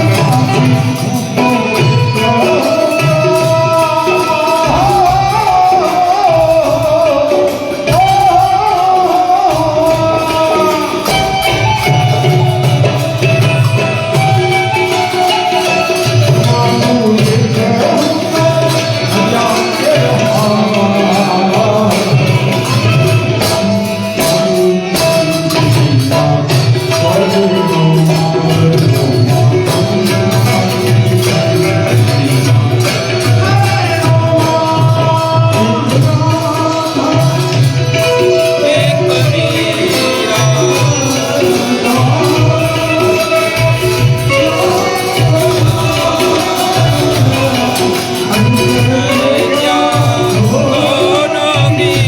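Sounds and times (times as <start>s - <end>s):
jingling hand percussion: 0.0s - 52.0s
person singing devotional song: 0.0s - 52.0s
tabla: 0.0s - 52.0s.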